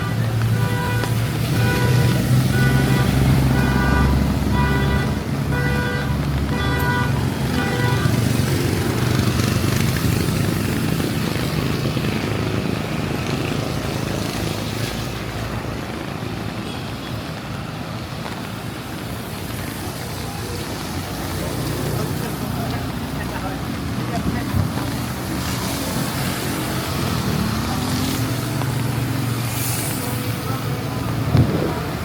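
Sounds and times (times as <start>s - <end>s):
rain: 0.0s - 32.0s
road traffic: 0.0s - 32.0s.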